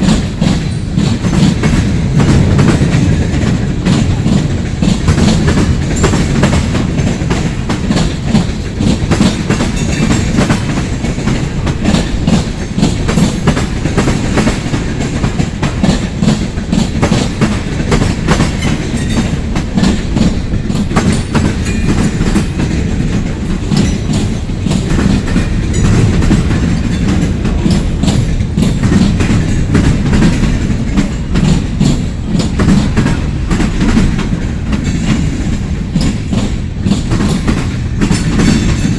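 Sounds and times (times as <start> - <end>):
train wheels rumbling on rail: 0.0 - 38.9
wheels clacking over rail joints: 0.0 - 38.9.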